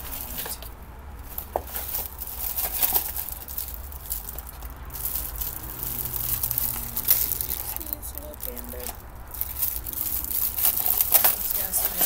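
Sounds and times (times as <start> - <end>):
cardboard box rustling: 0.0 - 12.0
plastic wrap crinkling: 0.0 - 12.0.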